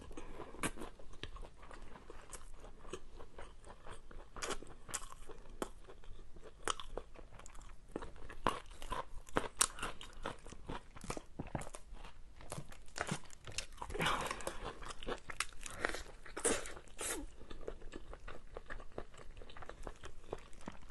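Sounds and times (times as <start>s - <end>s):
wet chewing and crunching: 0.0s - 20.9s.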